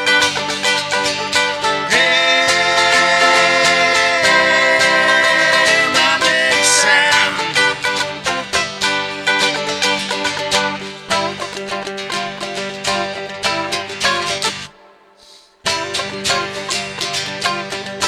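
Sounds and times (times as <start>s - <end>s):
acoustic band playing and singing: 0.0s - 18.0s.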